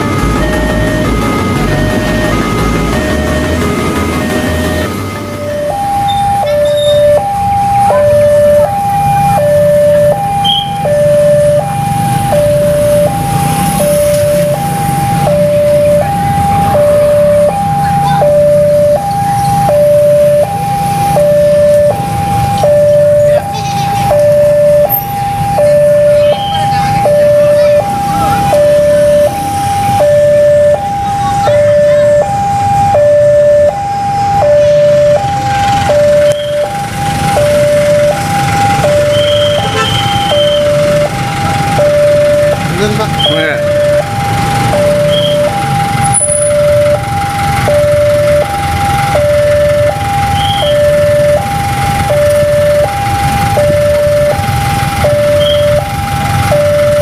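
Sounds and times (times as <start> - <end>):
motorcycle engines running: 0.0 - 57.0
two-tone electronic crossing alarm: 0.0 - 57.0.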